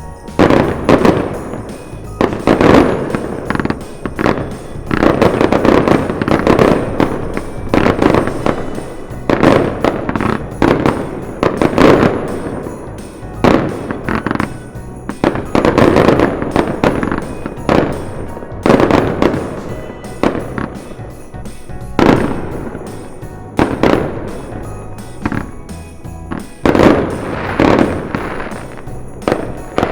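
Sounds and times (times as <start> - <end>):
fireworks bursting: 0.0 - 29.9.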